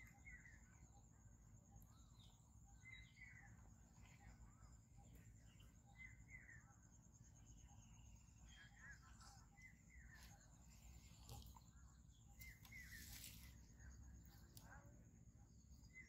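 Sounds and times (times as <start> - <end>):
bird chirps: 0.0 - 14.9.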